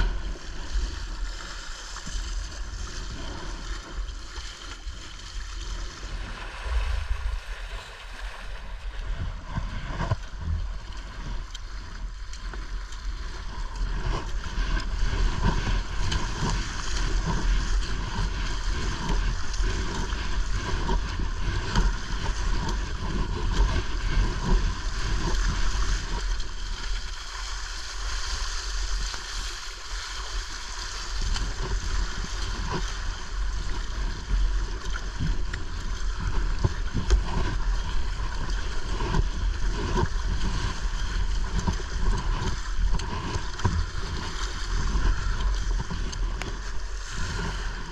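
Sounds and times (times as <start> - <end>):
water rushing along kayak hull: 0.0 - 47.9
wind rumble on microphone: 0.0 - 47.9.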